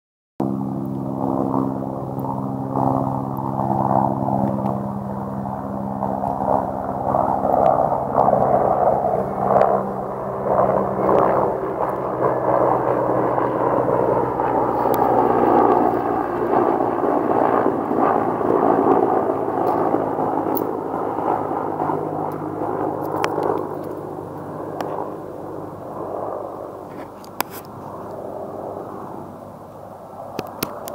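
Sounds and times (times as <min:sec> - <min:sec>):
helicopter rotor and engines drone: 0:00.4 - 0:30.9
low hum: 0:00.4 - 0:30.9.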